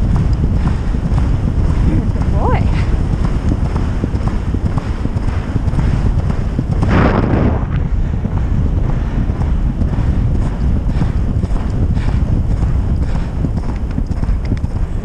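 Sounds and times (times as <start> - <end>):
horse hoofbeats: 0.0 - 15.0
wind buffeting microphone: 0.0 - 15.0.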